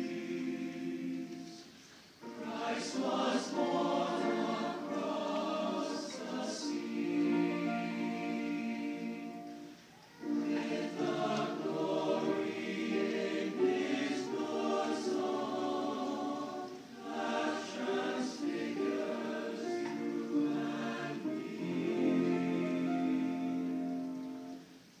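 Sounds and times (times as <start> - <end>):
choir singing sustained chords: 0.0 - 25.0.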